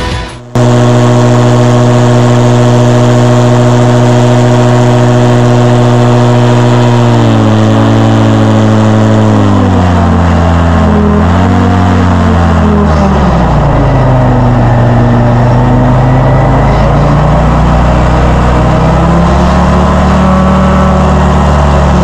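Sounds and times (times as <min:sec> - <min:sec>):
airboat engine at high revs: 0:00.5 - 0:22.0.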